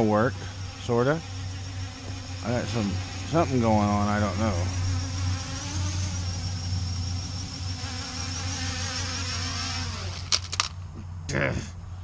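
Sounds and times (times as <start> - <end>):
quadcopter motors buzzing: 0.0 - 11.6.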